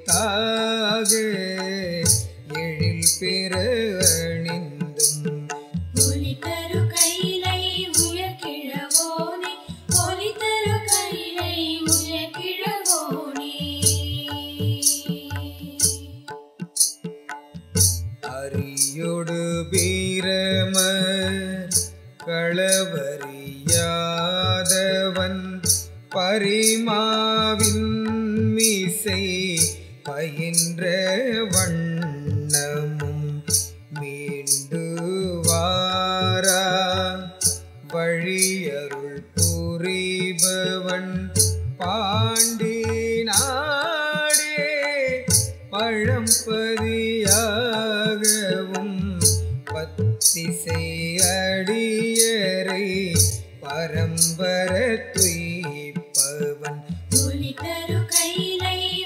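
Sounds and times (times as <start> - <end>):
steady percussion beat: 0.0 - 59.0.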